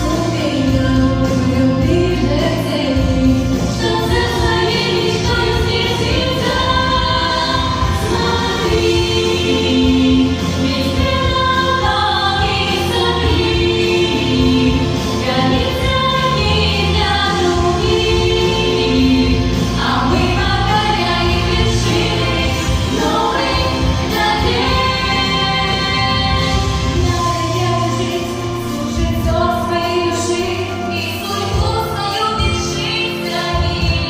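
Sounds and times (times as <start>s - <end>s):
backing music: 0.0s - 34.0s
vocal group singing: 0.0s - 34.0s.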